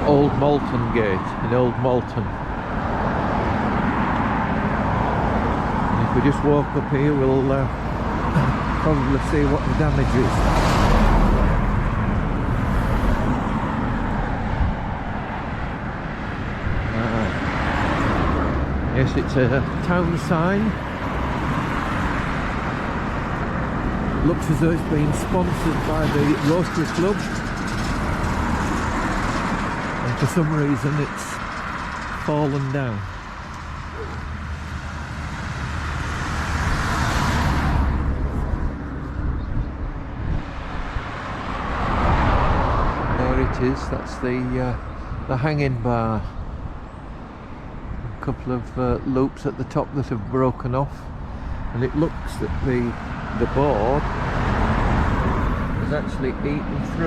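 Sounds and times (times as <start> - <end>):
vehicle passing: 0.0 - 48.1, 51.0 - 57.0
road traffic: 0.0 - 57.0.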